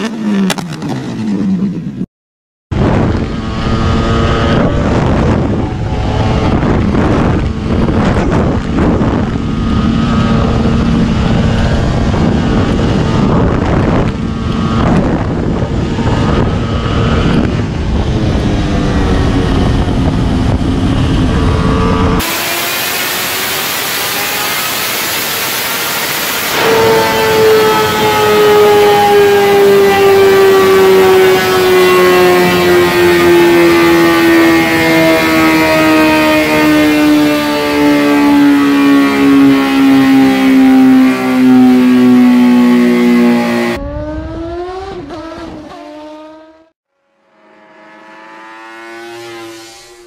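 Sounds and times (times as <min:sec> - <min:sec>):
motorcycle engine revving on dynamometer: 0:02.7 - 0:50.0
motorcycle engine running hard: 0:02.7 - 0:50.0.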